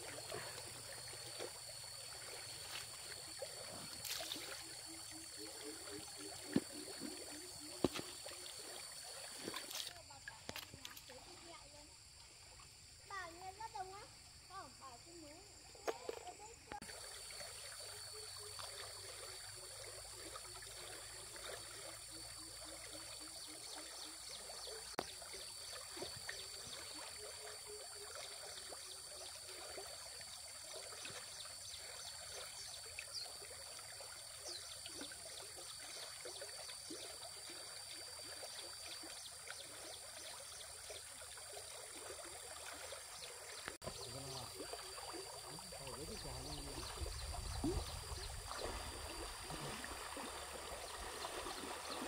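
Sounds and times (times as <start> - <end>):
stream water trickling: 0.0 - 52.0.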